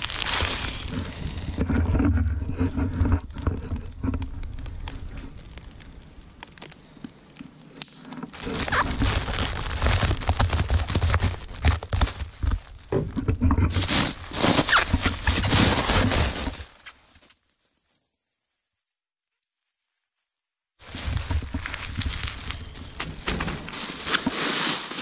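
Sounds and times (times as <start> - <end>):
bubble wrap crinkling: 0.0 - 2.0, 2.6 - 18.6, 20.8 - 25.0.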